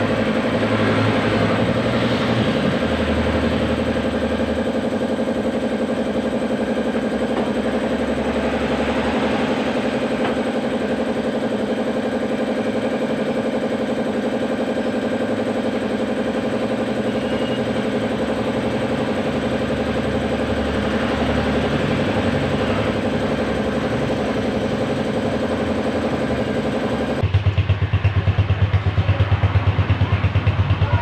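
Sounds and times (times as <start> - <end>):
motorcycle engine idling: 0.0 - 31.0.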